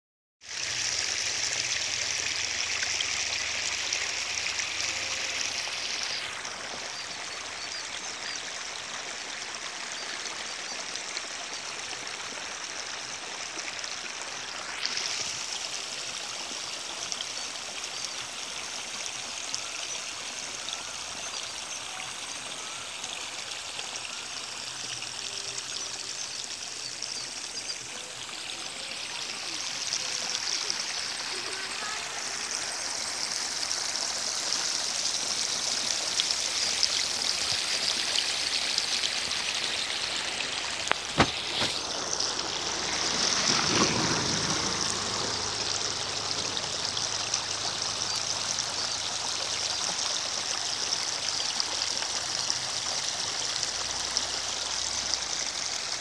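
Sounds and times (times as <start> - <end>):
stream water rushing: 0.4 - 56.0.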